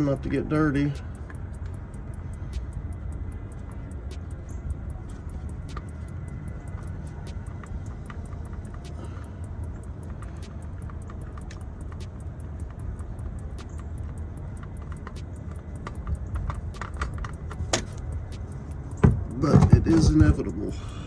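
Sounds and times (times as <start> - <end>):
rain ticking: 0.0 - 21.0
steady low rumble: 0.0 - 21.0.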